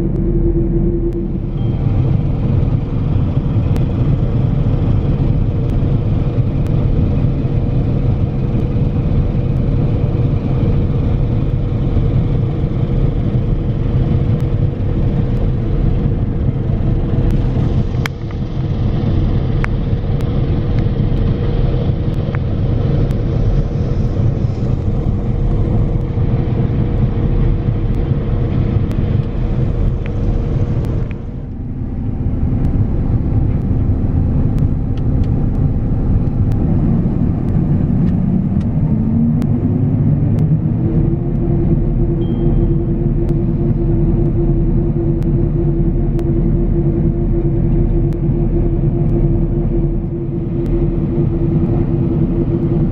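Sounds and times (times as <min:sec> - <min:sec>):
combine harvester drone: 0:00.0 - 0:52.9.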